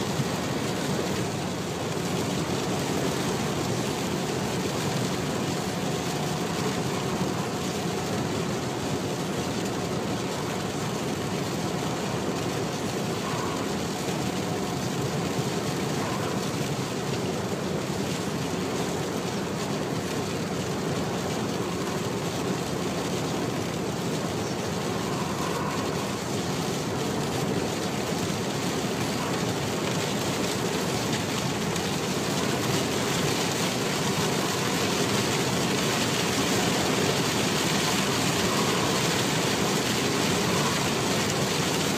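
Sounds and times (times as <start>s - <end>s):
heavy rain downpour: 0.0s - 41.9s.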